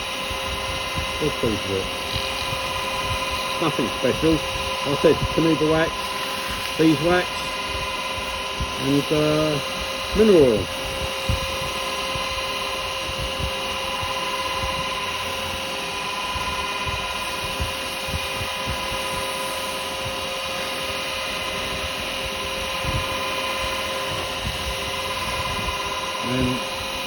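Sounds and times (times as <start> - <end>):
wood lathe motor whine: 0.0 - 27.0.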